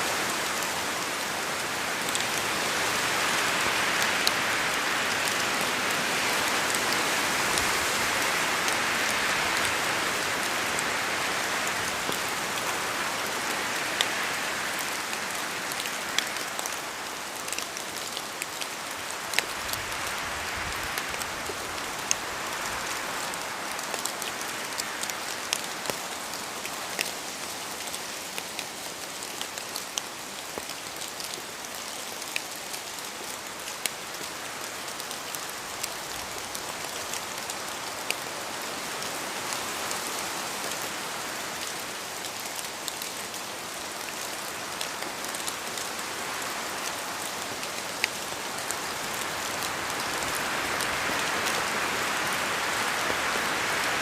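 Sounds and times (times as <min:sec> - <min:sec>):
steady rain in forest: 0:00.0 - 0:54.0.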